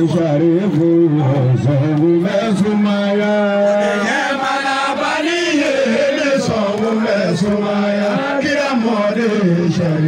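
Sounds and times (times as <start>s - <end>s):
men chanting over loudspeaker: 0.0s - 10.0s.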